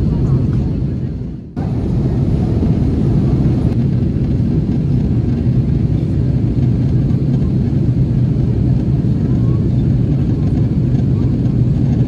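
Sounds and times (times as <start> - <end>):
airliner engines and airflow rushing: 0.0 - 12.0.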